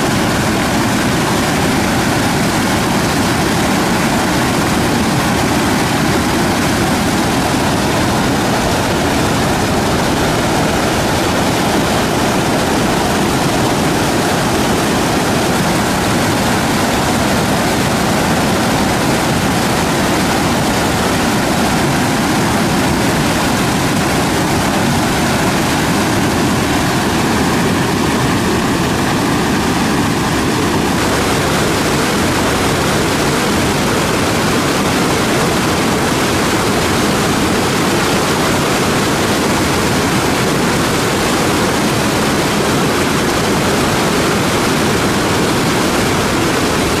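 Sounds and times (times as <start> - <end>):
whitewater rushing over rock: 0.0 - 47.0.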